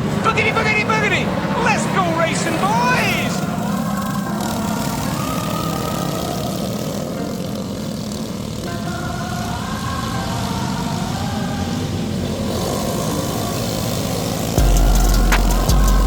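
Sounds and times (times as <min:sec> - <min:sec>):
go-kart engines racing: 0:00.0 - 0:16.0.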